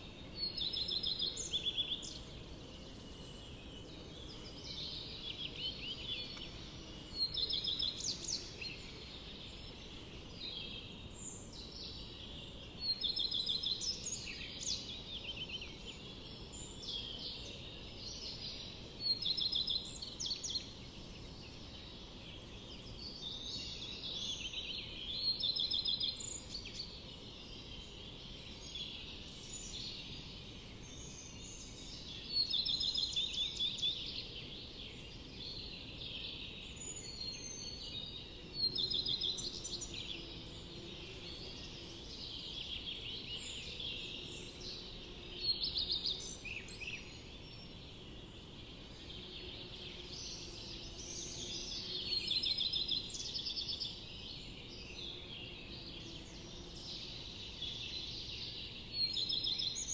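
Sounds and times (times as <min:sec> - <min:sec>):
faint background hiss: 0:00.0 - 0:59.9
songbirds singing: 0:00.0 - 0:59.9.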